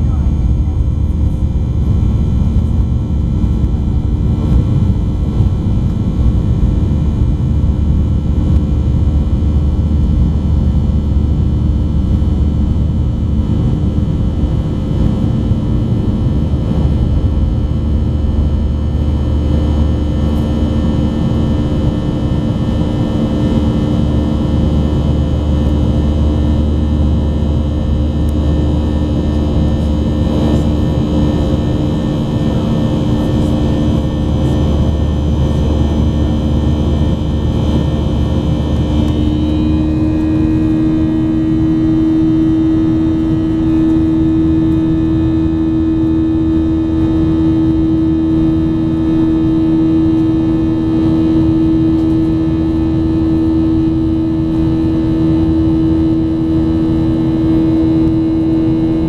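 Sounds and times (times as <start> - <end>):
jet engines deep rumble: 0.0 - 59.0
steady engine whine: 0.0 - 59.0.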